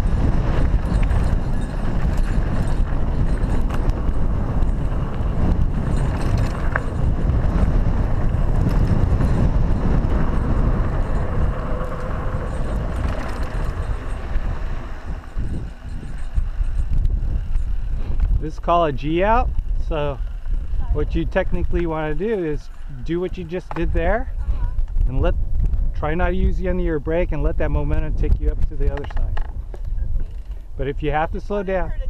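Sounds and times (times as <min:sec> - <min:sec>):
bike tyres rumbling on dirt: 0:00.0 - 0:31.4
bike rattling over bumps: 0:00.0 - 0:31.6
wind rumble on microphone: 0:00.0 - 0:32.0.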